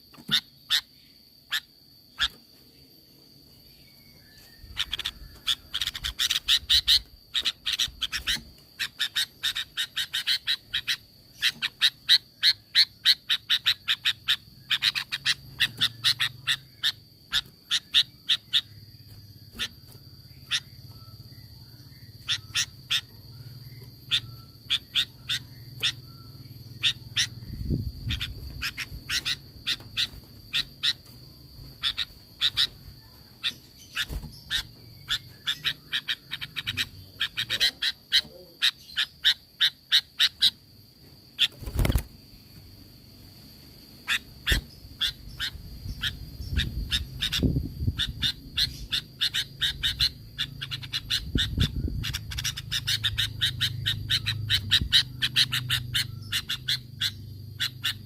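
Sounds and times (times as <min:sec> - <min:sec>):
bird giving sharp calls: 0:04.7 - 0:31.1, 0:31.7 - 0:40.6, 0:44.0 - 0:58.0.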